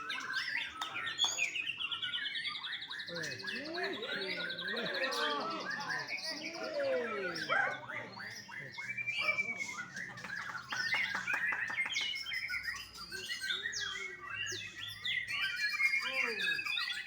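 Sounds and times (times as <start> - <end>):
bird singing whistles and chirps: 0.0 - 17.0.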